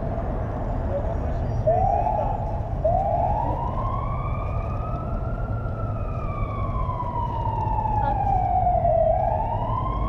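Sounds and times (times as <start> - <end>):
police siren wailing: 1.5 - 10.0.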